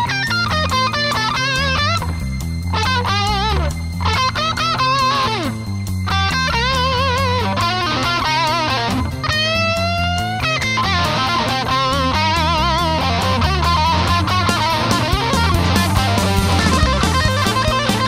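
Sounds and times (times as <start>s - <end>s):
bass line: 0.0s - 18.0s
drums: 0.0s - 18.0s
electric guitar lead with vibrato: 0.0s - 18.0s.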